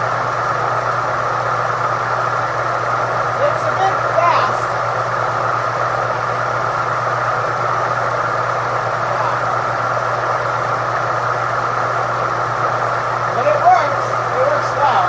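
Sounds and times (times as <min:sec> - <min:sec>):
fan air rushing: 0:00.0 - 0:15.0
low motor hum: 0:00.0 - 0:15.0.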